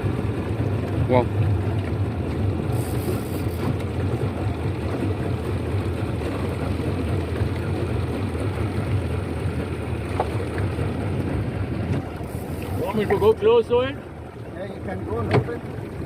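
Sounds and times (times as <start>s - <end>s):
motorboat engine humming: 0.0s - 16.0s.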